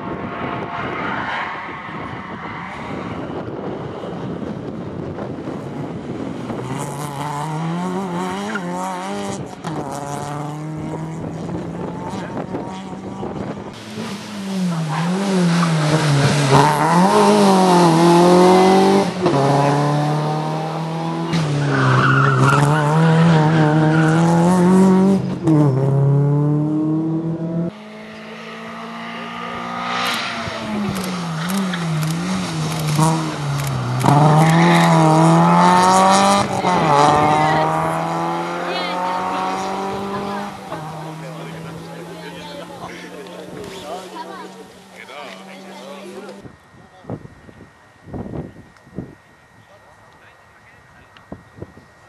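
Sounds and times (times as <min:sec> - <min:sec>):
rally car engine revving: 0:00.0 - 0:46.5
tyre and road noise: 0:00.0 - 0:52.0.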